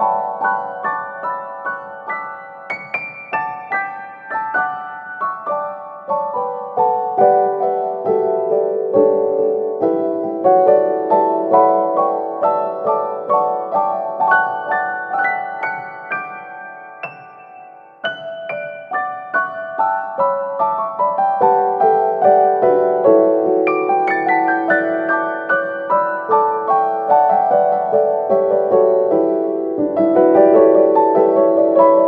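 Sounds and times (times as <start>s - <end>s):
flowing piano music: 0.0s - 32.0s.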